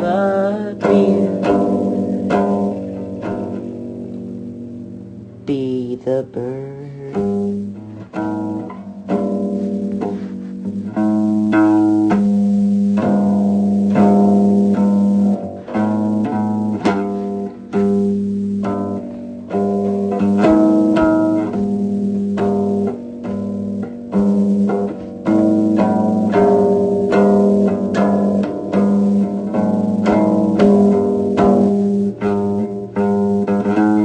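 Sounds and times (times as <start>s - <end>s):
instrumental music with bass line: 0.0s - 34.0s.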